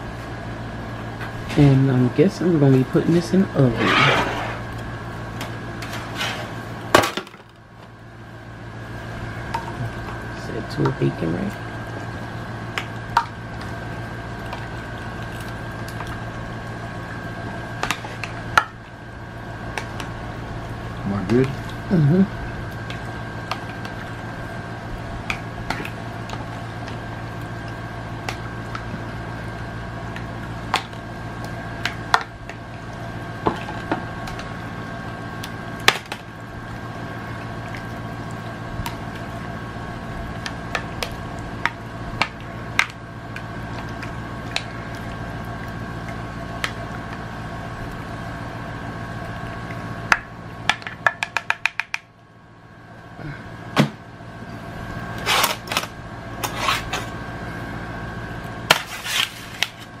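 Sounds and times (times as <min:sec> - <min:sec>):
steady electrical hum: 0:00.0 - 1:00.0.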